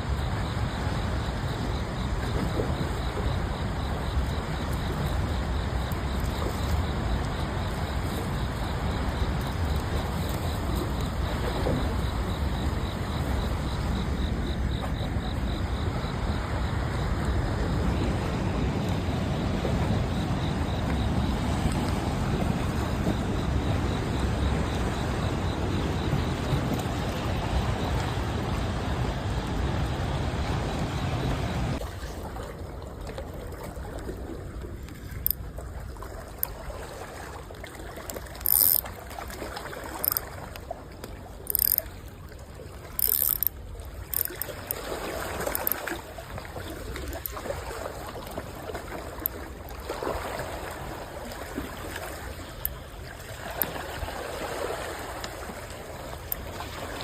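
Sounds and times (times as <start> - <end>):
flowing water at dam: 0.0 - 57.0.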